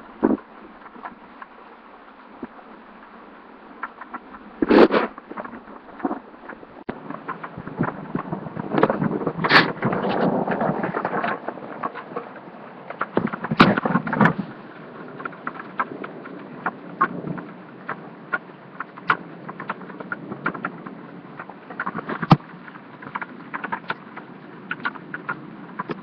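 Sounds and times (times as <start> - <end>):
rain hiss: 0.0 - 25.9
raindrops tapping microphone: 0.0 - 26.0
wind: 0.0 - 26.0.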